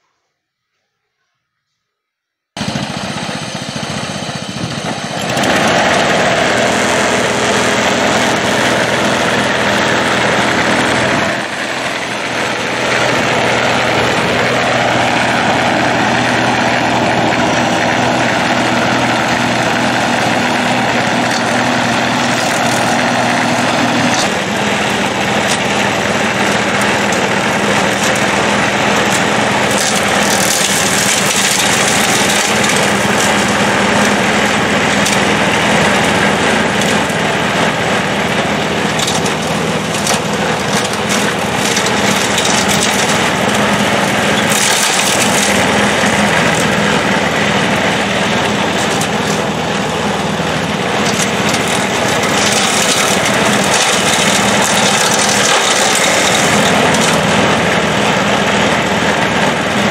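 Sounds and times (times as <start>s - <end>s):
garden tractor engine: 2.6s - 59.9s
push mower engine: 2.6s - 59.9s.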